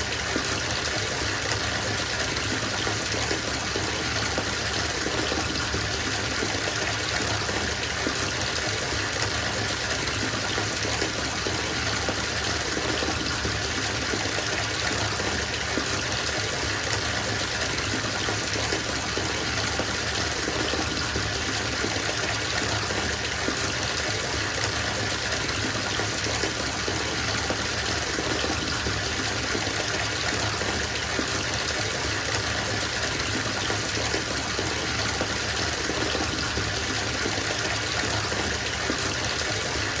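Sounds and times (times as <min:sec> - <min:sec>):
tap water splashing into bathtub: 0:00.0 - 0:40.0.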